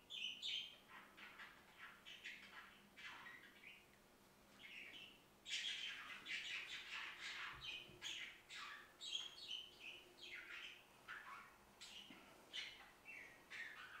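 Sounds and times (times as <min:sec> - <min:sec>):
birds chirping: 0:00.0 - 0:04.0, 0:04.6 - 0:14.0.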